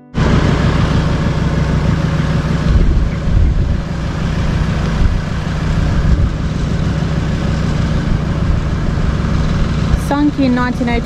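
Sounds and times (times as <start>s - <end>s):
car engine rumbling: 0.0s - 11.0s
road noise: 0.0s - 11.0s.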